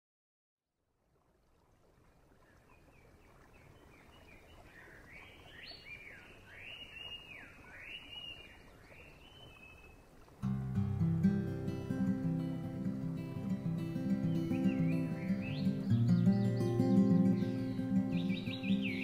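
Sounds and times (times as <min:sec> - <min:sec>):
outdoor background hiss: 0:00.8 - 0:19.0.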